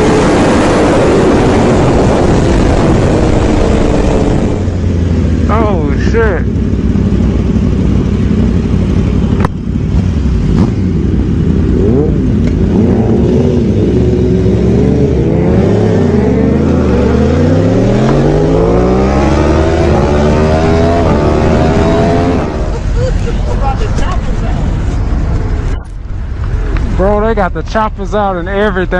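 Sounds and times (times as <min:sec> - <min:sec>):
motorcycle engines revving: 0:00.0 - 0:28.9.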